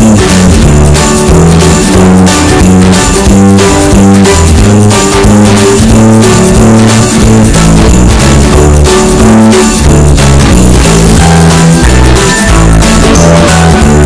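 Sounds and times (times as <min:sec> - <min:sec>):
guitar music with percussion beat: 0:00.0 - 0:14.0.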